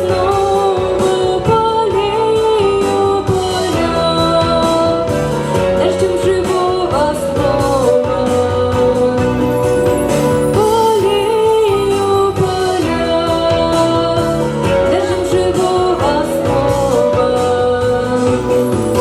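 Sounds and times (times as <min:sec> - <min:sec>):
instrumental band backing: 0:00.0 - 0:19.0
woman singing: 0:00.0 - 0:19.0.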